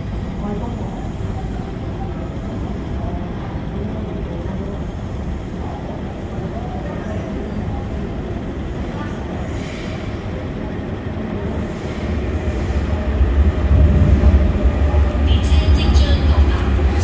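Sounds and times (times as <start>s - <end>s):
electric train rumbling on rails: 0.0s - 17.0s.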